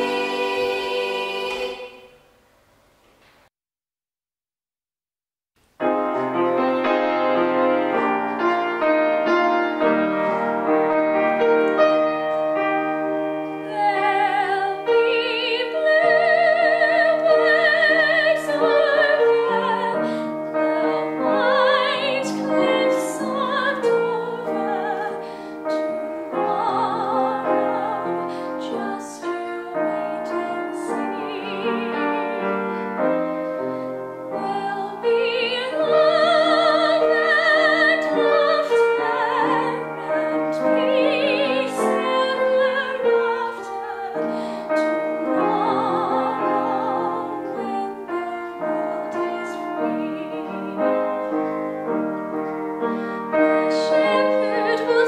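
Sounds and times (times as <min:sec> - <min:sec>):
piano: 0:00.0 - 0:03.5, 0:05.6 - 0:55.0
girl singing classical: 0:06.1 - 0:55.0.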